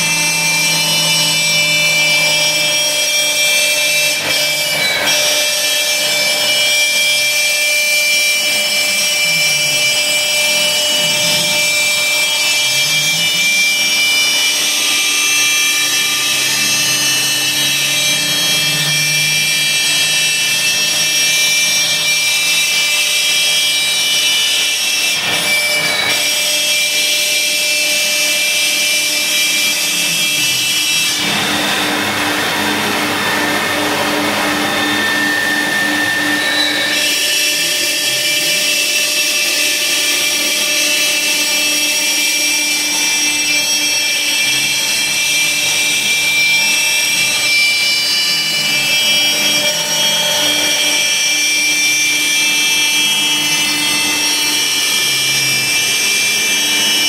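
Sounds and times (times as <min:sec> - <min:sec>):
router spindle whining: 0:00.0 - 0:57.0.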